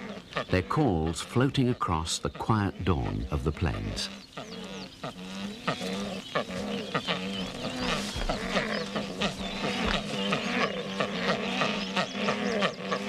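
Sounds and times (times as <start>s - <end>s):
bird chirps and calls: 0.0s - 13.0s
low repeated bird call: 0.0s - 13.0s.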